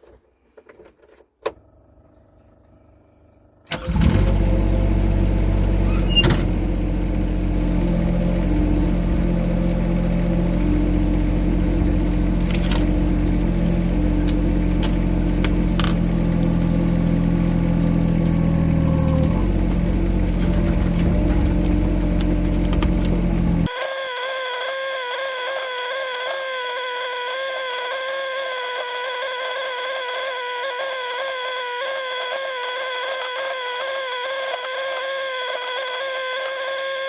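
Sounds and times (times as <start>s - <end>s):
excavator engine running: 1.6s - 37.0s.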